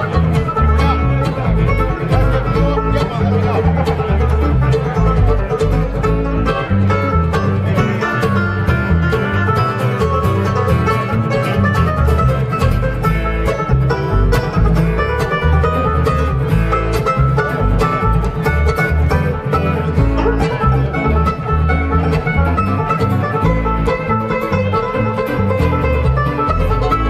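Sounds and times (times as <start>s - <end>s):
acoustic guitar flatpicking: 0.0s - 27.0s
upright bass line: 0.0s - 27.0s.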